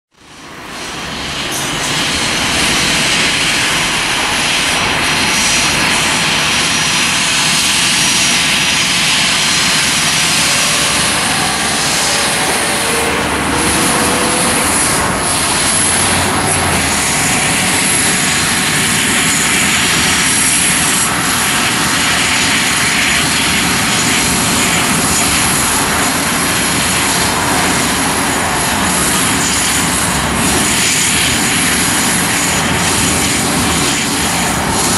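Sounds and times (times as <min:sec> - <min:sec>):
jet engines running: 0:00.1 - 0:34.9.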